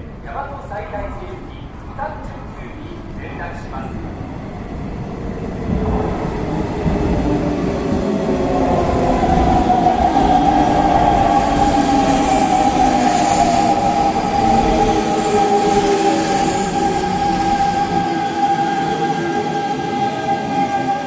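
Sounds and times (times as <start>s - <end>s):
electric train whining: 1.0s - 21.0s.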